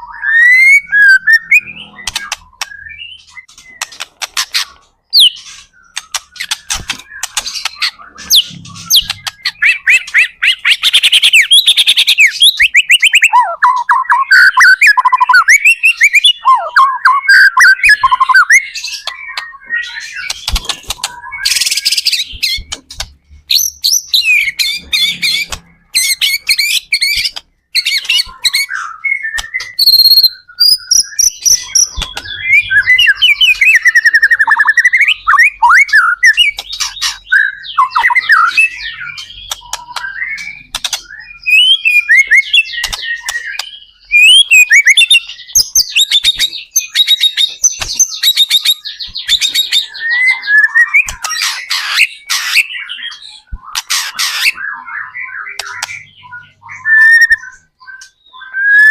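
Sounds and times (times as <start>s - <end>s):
songbird singing varied song: 0.0s - 58.9s.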